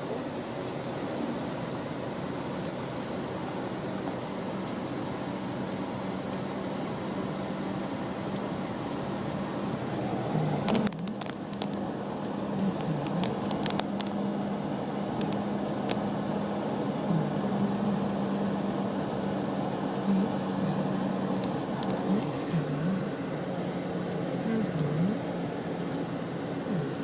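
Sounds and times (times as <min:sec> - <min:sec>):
car engine hum: 0:00.0 - 0:27.0
road noise: 0:00.0 - 0:27.0.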